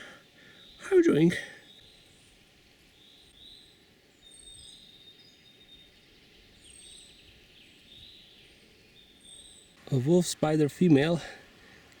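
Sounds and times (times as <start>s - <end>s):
birds chirping and whistling: 0.0s - 11.8s
outdoor background noise: 0.0s - 12.0s.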